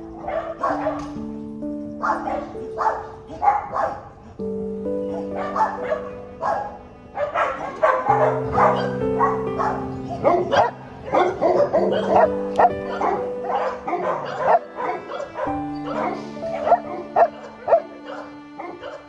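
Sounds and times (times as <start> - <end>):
background music with held chords: 0.0 - 19.0
many dogs barking: 0.0 - 19.0.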